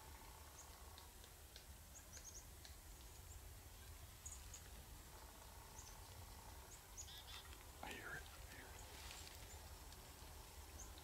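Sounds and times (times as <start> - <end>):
faint low wind rumble: 0.0 - 11.0.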